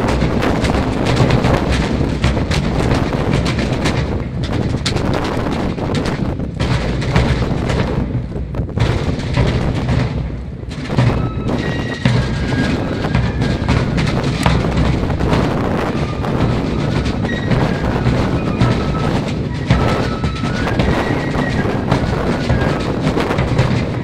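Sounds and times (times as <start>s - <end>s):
bass drum: 0.0s - 24.0s
snare drums: 0.0s - 24.0s
wind rumbling on microphone: 0.0s - 24.0s.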